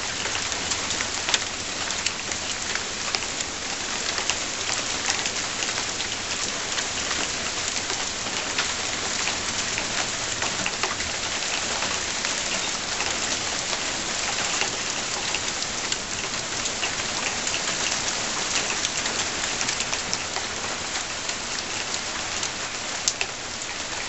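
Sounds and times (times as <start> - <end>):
rain and hail pattering: 0.0 - 24.0.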